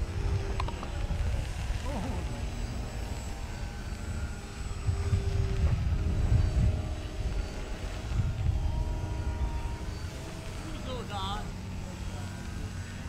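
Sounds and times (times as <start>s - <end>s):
model plane motors whining: 0.0s - 13.0s
wind rumble on microphone: 0.0s - 13.0s.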